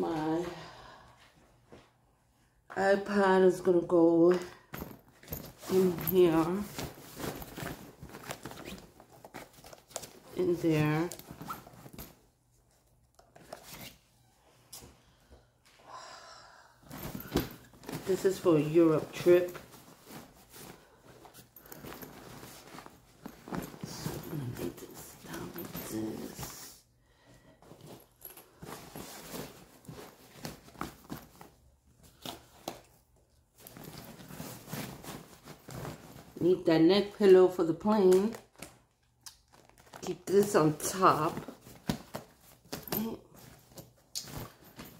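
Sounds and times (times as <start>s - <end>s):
faint rustling of fabric bag: 4.6s - 15.5s, 16.8s - 38.6s, 39.4s - 44.9s.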